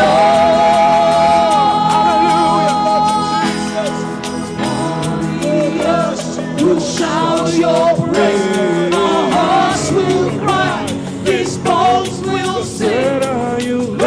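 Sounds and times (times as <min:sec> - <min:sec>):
sliding melody line: 0:00.0 - 0:14.0
worship band playing: 0:00.0 - 0:14.0.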